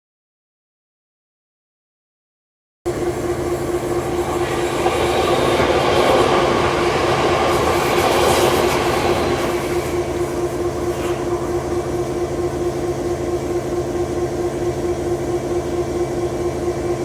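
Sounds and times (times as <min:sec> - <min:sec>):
mid-pitched hum: 0:02.9 - 0:17.0
train running on rails: 0:02.9 - 0:17.0.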